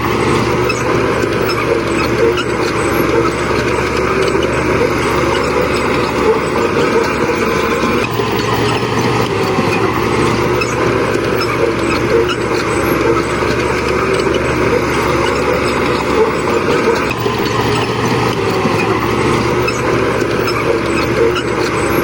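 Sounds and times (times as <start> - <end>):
diesel engines running: 0.0 - 22.0.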